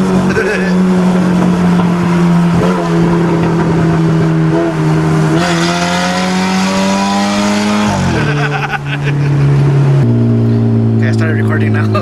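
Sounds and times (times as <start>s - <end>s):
car engine running at high revs: 0.0s - 12.0s.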